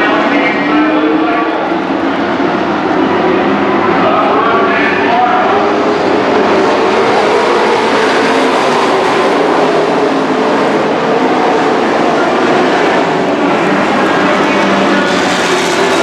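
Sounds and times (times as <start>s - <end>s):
race truck engines: 0.0s - 16.0s.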